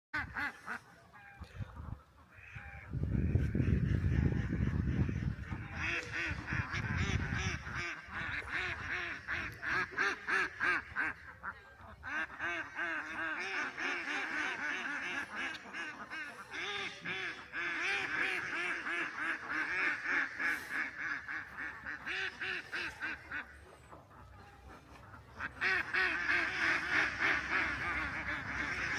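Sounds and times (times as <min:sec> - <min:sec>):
duck quacking: 0:00.2 - 0:28.9.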